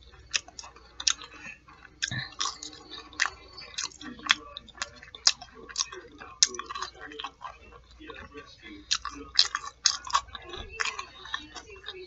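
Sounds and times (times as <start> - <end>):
mouth smacks: 0.0 - 12.0
wet chewing with crunches: 0.0 - 12.0.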